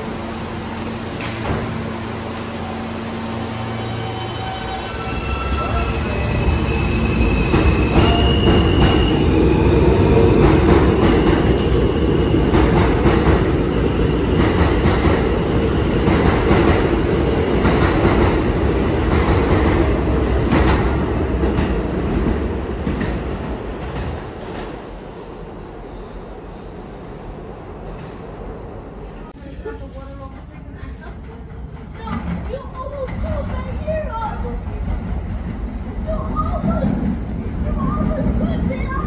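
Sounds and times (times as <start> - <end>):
train cars rumbling: 0.0 - 39.0.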